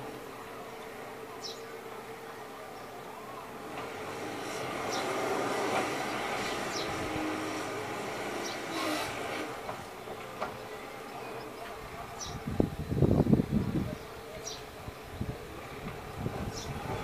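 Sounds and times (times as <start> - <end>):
distant heavy engine rumble: 0.0 - 17.0.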